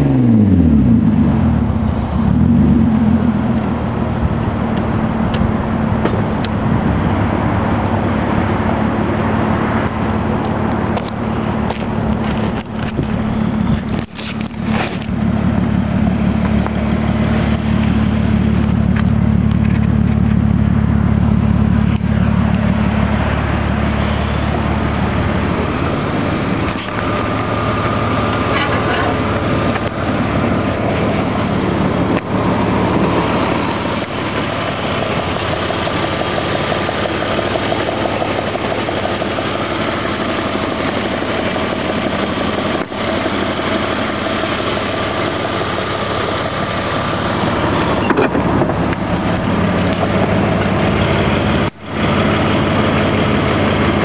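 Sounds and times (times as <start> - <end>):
car engine idling through exhaust: 0.0 - 54.0.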